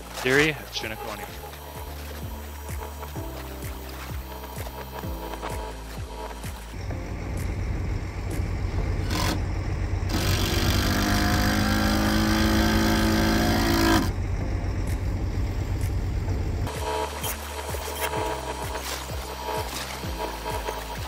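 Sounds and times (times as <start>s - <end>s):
loader engine revving: 0.0s - 21.0s.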